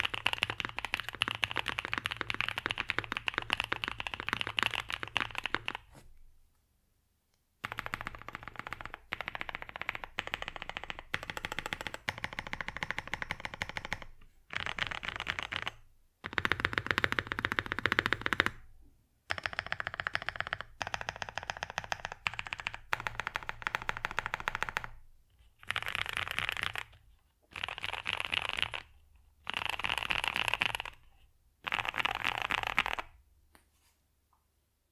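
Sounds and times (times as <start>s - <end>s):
fast typing on mechanical keyboard: 0.0s - 5.9s, 7.6s - 18.6s, 19.3s - 25.0s, 25.6s - 31.0s, 31.6s - 33.2s.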